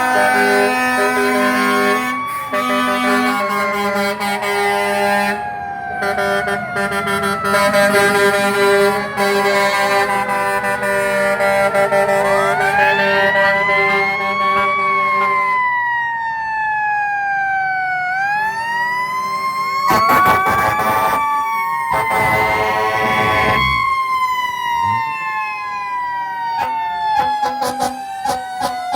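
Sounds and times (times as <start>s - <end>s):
emergency sirens wailing: 0.0s - 28.9s.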